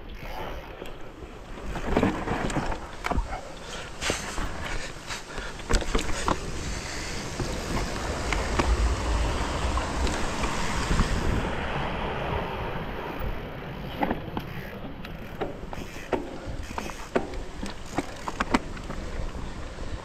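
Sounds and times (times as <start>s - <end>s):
bike clicks and rattles: 0.0s - 11.5s, 12.9s - 20.0s
bike tyre noise: 0.0s - 20.0s
wind buffeting microphone: 1.1s - 20.0s.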